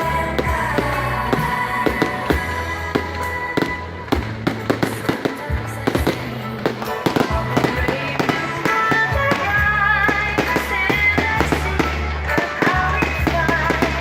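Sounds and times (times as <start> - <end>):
fireworks bangs: 0.0 - 14.0
loud music: 0.0 - 14.0.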